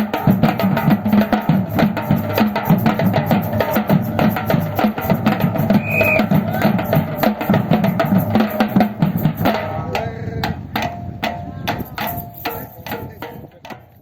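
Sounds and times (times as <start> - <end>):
percussion ensemble drumming: 0.0 - 14.0.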